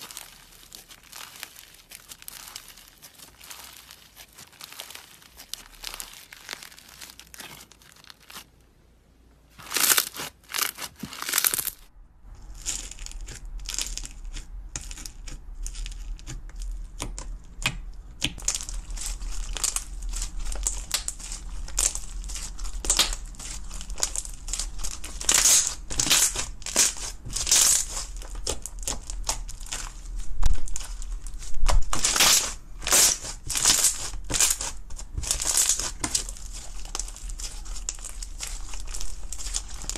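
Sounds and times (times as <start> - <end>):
slime crackling and popping: 0.0 - 8.6, 9.6 - 39.9.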